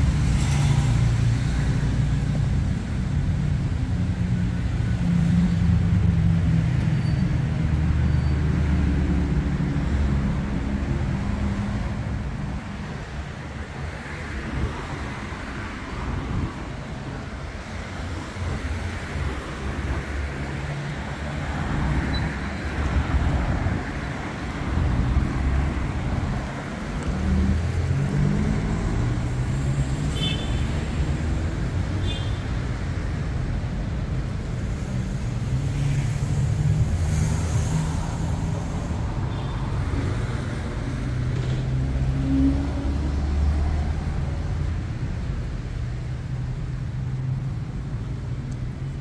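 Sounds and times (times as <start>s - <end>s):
car engines passing: 0.0s - 49.0s
tyre and road noise: 0.0s - 49.0s.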